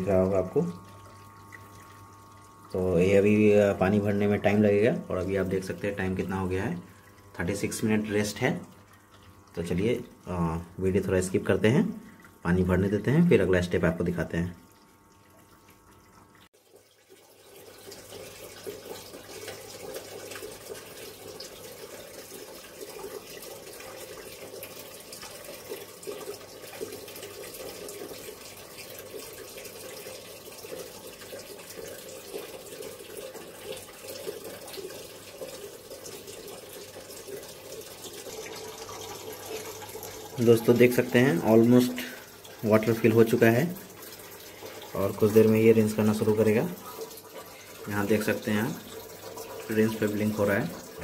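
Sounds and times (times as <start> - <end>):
water pouring into washing machine: 0.0 - 51.0.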